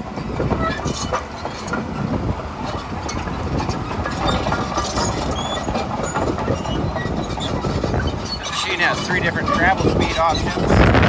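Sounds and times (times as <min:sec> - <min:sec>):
crawler tracks clattering: 0:00.0 - 0:11.0
diesel engine running: 0:00.0 - 0:11.0
track links squeaking and clinking: 0:00.0 - 0:11.0.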